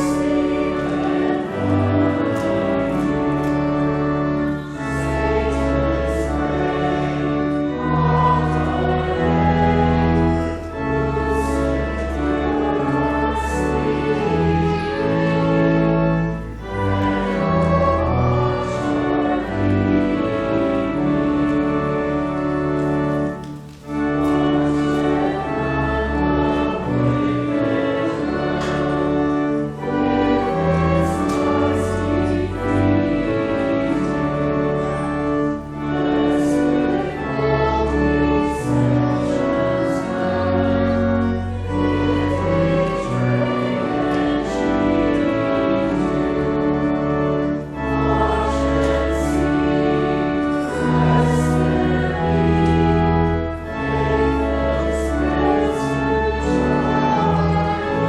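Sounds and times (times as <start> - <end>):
organ accompaniment: 0.0 - 58.0
voices singing a hymn: 0.0 - 58.0.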